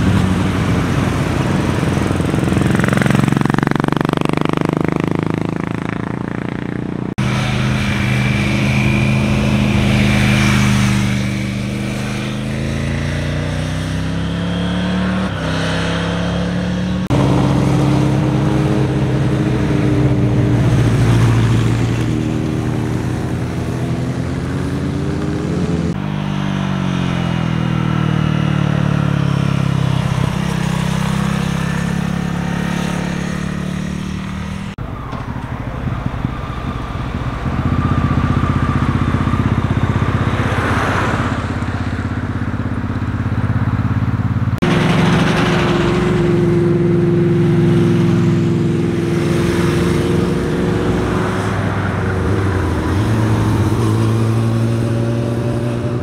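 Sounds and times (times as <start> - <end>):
motorcycle engines: 0.0 - 56.0.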